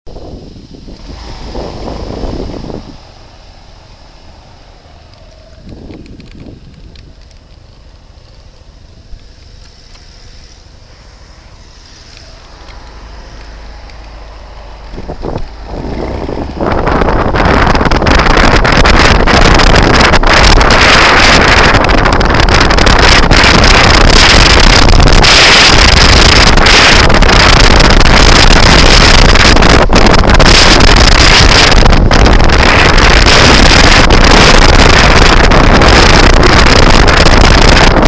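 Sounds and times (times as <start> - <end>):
wind buffeting microphone: 0.1 - 38.0.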